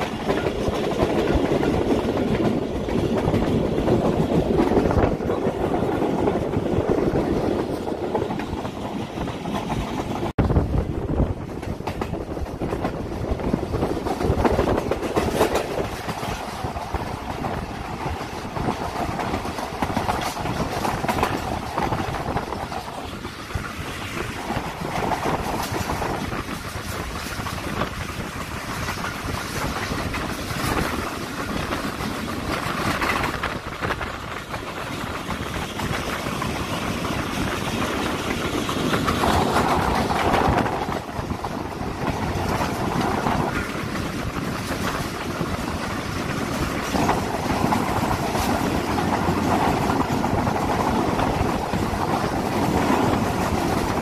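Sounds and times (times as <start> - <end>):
wheels clicking over rails: 0.0 - 10.4, 11.3 - 54.0
train coaches rumbling: 0.0 - 54.0.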